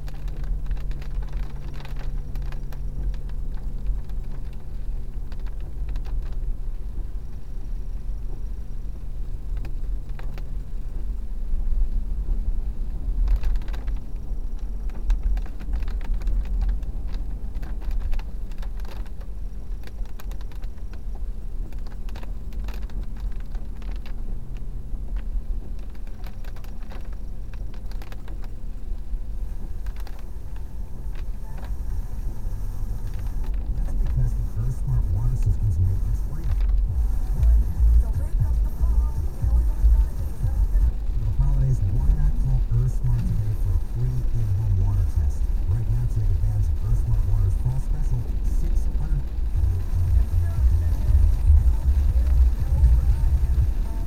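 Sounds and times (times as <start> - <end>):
car interior rattles: 0.0 - 54.0
car road and engine rumble: 0.0 - 54.0.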